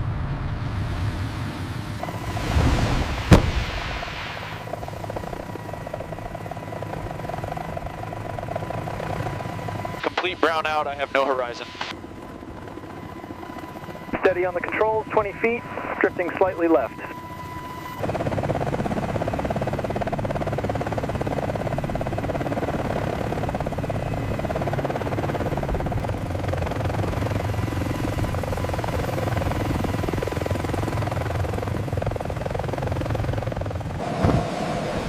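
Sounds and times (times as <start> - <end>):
helicopter turbine noise: 0.0 - 35.0
helicopter rotor blade chop: 0.7 - 35.0.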